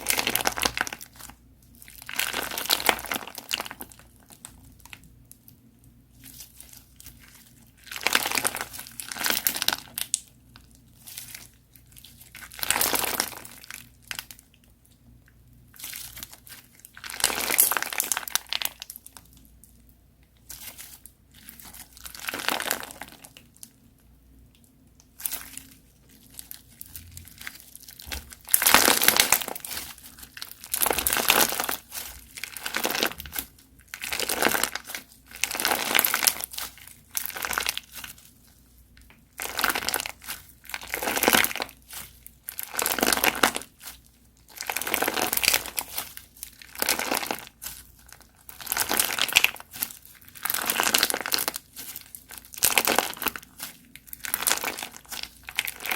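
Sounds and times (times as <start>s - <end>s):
slime crackling when squeezed: 0.0s - 5.0s, 11.0s - 14.4s, 15.7s - 19.4s, 20.4s - 23.7s, 25.0s - 55.9s.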